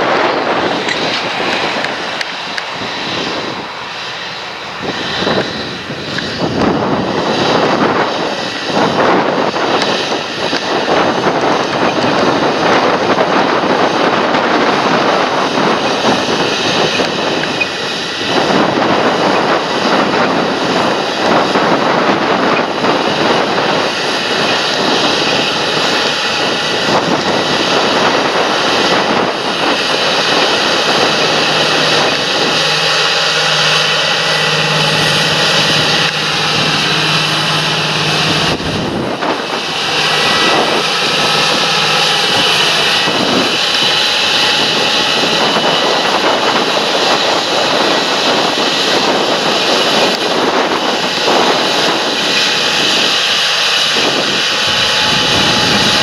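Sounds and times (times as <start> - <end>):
low hum: 0.0 - 56.0
tractor engine working: 0.0 - 56.0.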